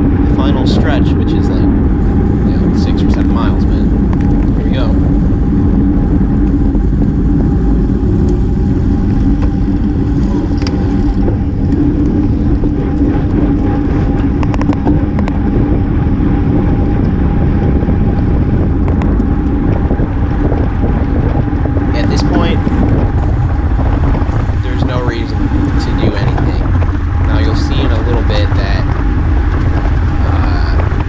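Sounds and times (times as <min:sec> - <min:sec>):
bicycle tyres humming: 0:00.0 - 0:31.0
wind rushing: 0:00.0 - 0:31.0.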